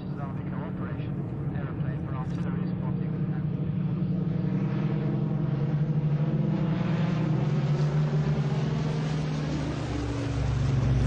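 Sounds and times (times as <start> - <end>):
piston aircraft engine droning: 0.0 - 11.0.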